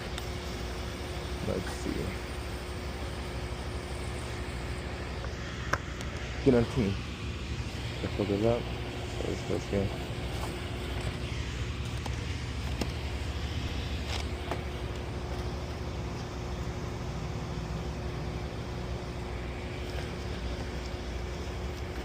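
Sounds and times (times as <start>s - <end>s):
constant hum: 0.0s - 22.0s
low mechanical rumble: 0.0s - 22.0s.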